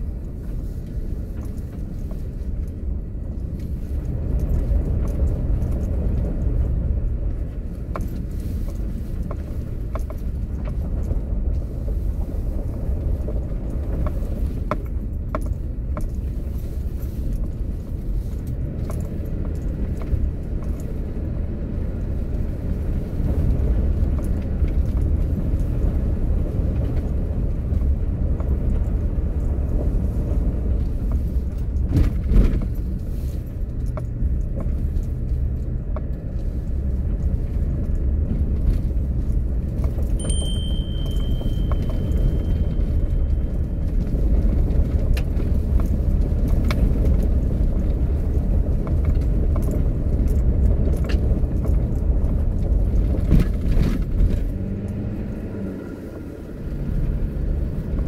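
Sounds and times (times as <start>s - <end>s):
engine and tyres rumbling: 0.0s - 58.0s.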